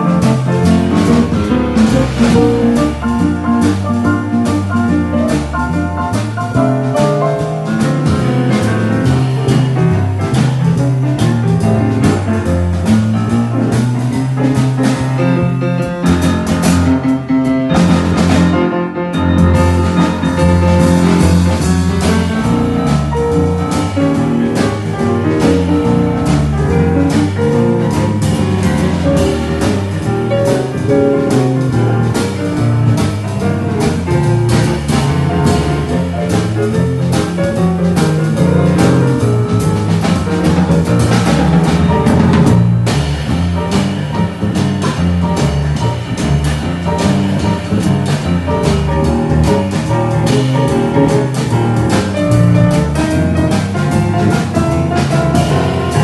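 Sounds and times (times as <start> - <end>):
boogie-woogie piano: 0.0 - 56.0.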